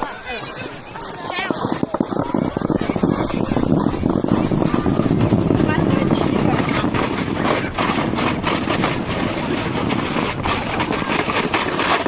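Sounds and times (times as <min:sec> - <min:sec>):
crackling scrapes over snow: 0:00.0 - 0:12.0
wind buffeting microphone: 0:00.0 - 0:12.0.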